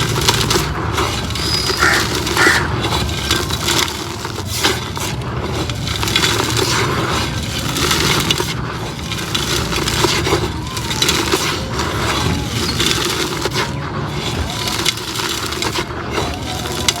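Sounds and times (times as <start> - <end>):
concrete pot crumbling: 0.0 - 17.0.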